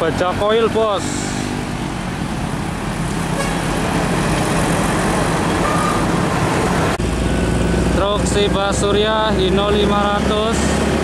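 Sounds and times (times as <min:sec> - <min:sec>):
road and traffic noise: 0:00.0 - 0:11.0
truck diesel engine hum: 0:00.0 - 0:11.0.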